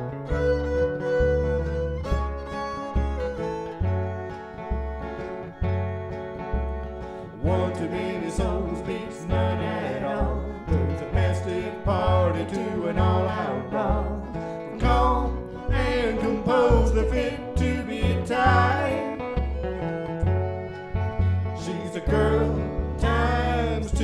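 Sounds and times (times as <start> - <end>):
country song with guitar and fiddle: 0.0 - 24.0.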